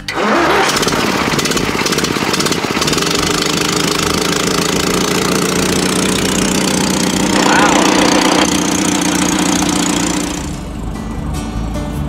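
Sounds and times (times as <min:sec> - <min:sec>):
tractor engine starting and running: 0:00.0 - 0:12.0.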